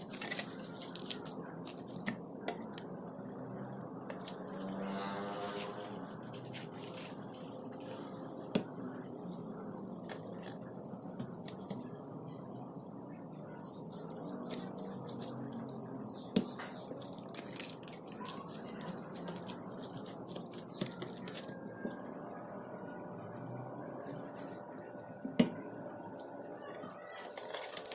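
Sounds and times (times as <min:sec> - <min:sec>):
low background noise: 0:00.0 - 0:27.9.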